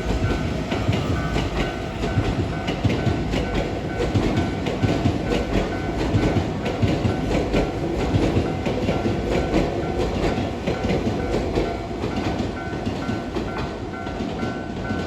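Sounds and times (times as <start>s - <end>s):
train wheels clacking over rails: 0.0s - 15.0s.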